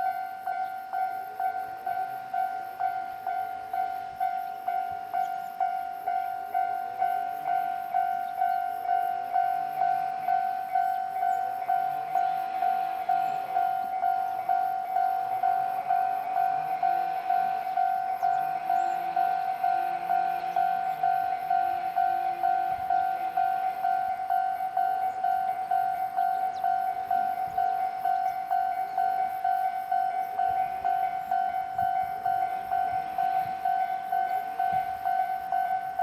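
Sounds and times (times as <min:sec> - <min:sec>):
level-crossing warning bell: 0:00.0 - 0:36.0
train passing: 0:00.0 - 0:36.0.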